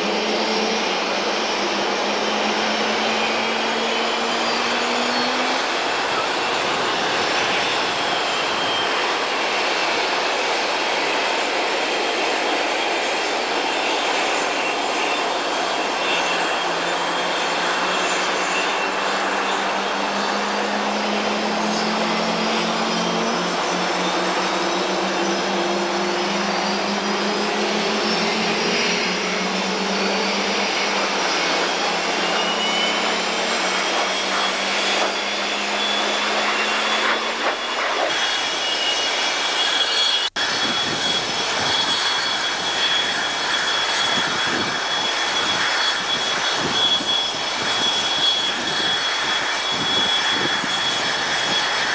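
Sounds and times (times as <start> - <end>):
jet engines with turbine whine: 0.0 - 51.9.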